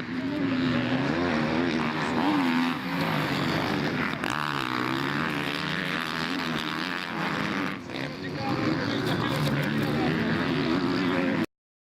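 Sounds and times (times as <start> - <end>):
dirt bike engines revving: 0.0 - 11.5.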